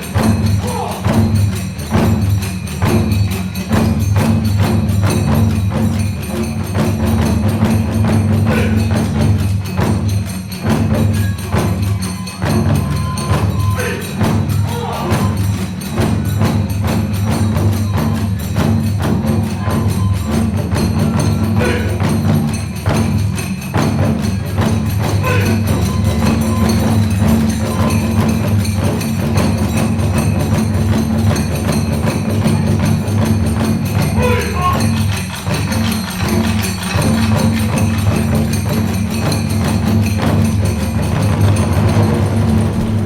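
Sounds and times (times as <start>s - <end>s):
hand cymbals: 0.0s - 43.0s
taiko drums: 0.0s - 43.0s.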